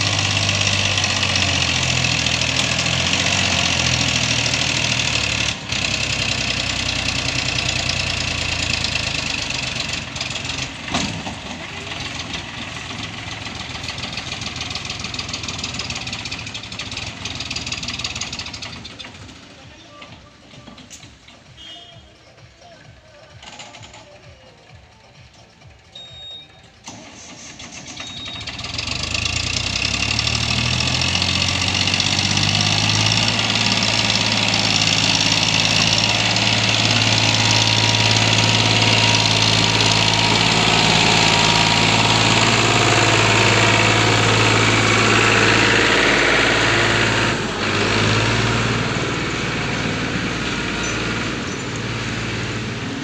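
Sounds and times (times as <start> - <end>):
diesel tractor engine revving: 0.0 - 21.8, 26.7 - 53.0.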